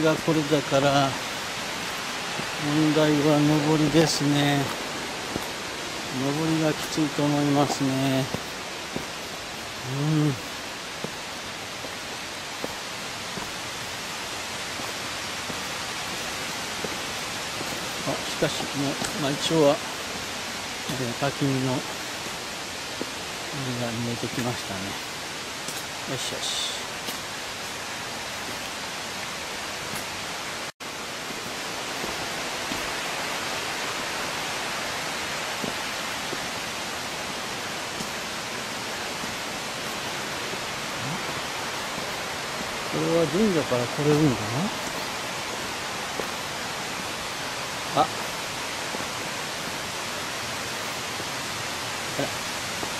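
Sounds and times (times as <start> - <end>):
footsteps on stone steps: 0.0 - 52.9
waterfall rushing: 0.0 - 52.9.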